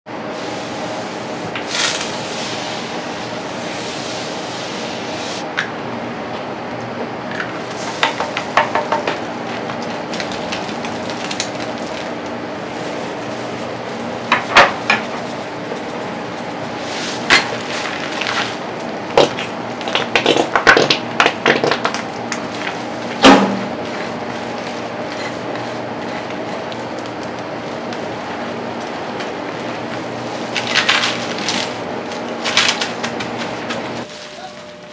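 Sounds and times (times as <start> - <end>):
steady hum: 0.1 - 34.9.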